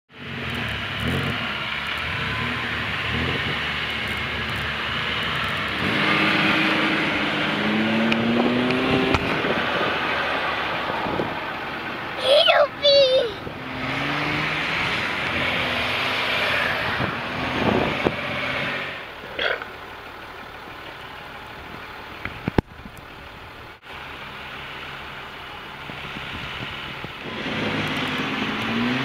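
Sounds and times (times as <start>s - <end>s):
off-road vehicle engines: 0.1s - 29.0s.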